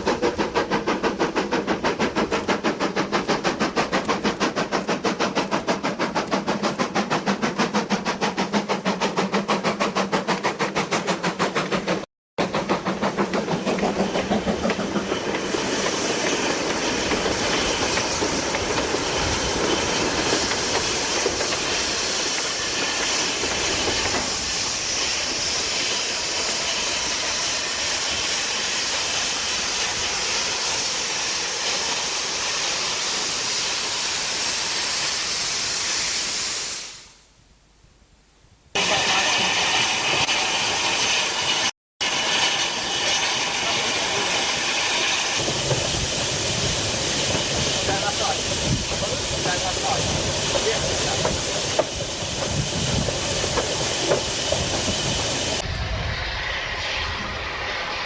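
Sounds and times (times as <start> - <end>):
steam hissing: 0.0 - 37.3, 38.8 - 58.0
steam locomotive exhaust beats: 0.0 - 37.3, 38.8 - 58.0.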